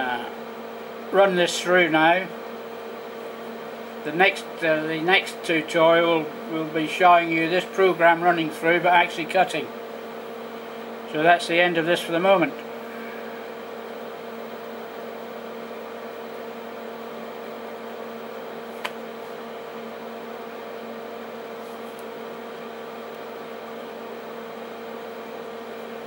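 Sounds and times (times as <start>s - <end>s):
idle lathe humming and whirring: 0.0s - 26.0s.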